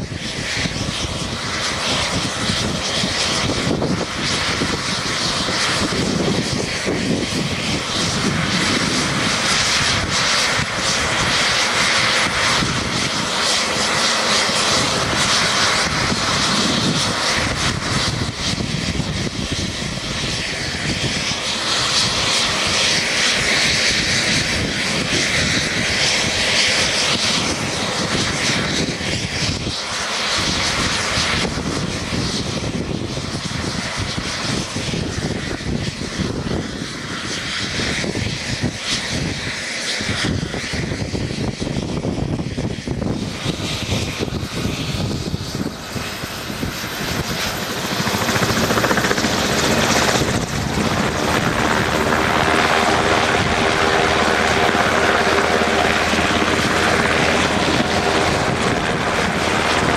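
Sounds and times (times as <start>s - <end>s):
helicopter engines and rotors: 0.0s - 59.9s.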